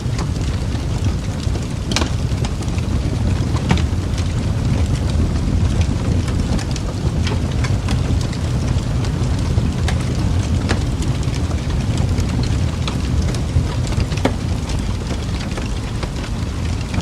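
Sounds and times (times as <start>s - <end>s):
fire crackles and pops: 0.0s - 17.0s
fire roaring in fireplace: 0.0s - 17.0s.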